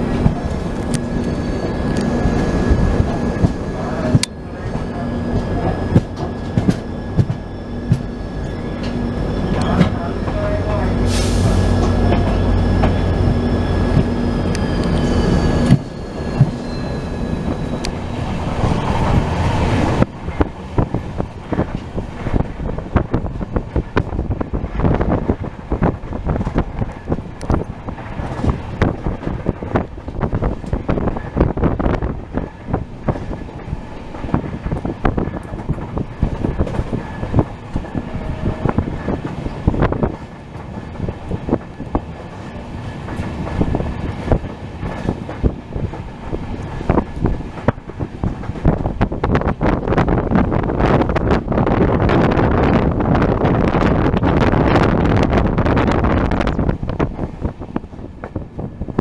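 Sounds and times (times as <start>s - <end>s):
train rumbling: 0.0s - 59.0s
train wheels clattering over track: 0.0s - 59.0s.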